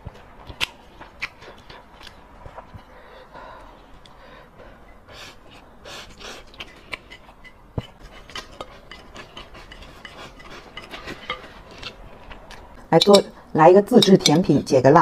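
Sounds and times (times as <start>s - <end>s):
wet chewing: 0.0s - 4.2s, 5.2s - 14.4s.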